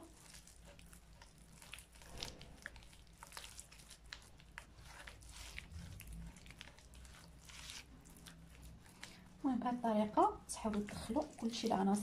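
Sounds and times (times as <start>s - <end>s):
hands squishing soft mixture: 0.0s - 12.0s.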